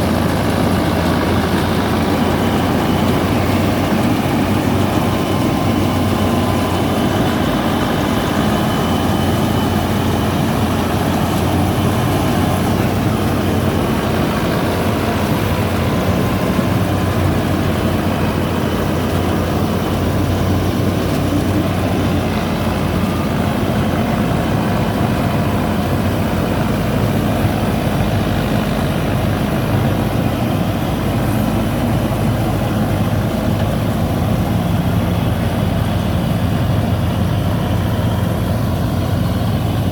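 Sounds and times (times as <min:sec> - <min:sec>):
cutter machine engine running: 0:00.0 - 0:39.9.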